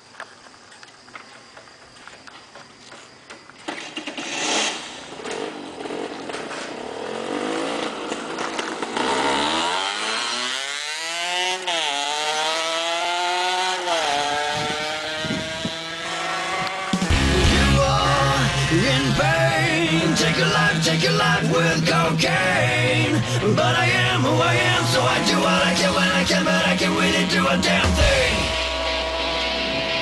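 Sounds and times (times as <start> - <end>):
motorcycle engine revving: 3.7 - 30.0.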